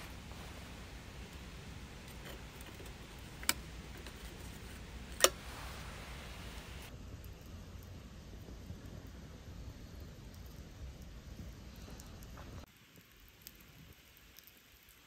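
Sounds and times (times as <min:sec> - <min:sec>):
low background rumble: 0:00.0 - 0:12.7.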